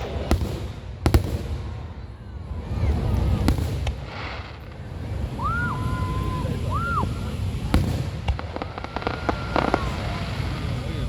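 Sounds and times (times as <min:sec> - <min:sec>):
firework whistling: 0:00.0 - 0:11.0
fireworks bangs and cracks: 0:00.0 - 0:11.0.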